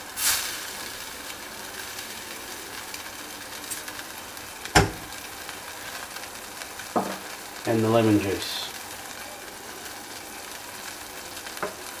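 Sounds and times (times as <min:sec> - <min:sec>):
sauce sizzling in a saucepan: 0:00.0 - 0:12.0.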